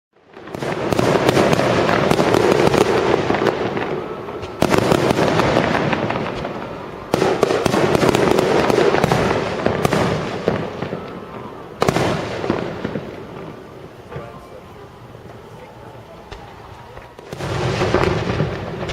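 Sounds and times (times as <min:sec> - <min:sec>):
fireworks crackling: 0:00.1 - 0:18.9
fireworks bursts: 0:00.2 - 0:18.9.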